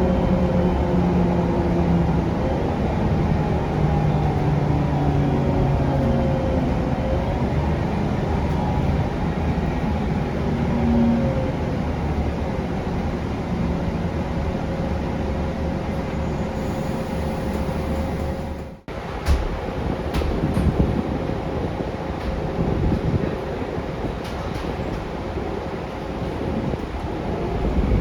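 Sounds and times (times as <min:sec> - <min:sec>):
bus diesel engine hum: 0:00.0 - 0:28.0.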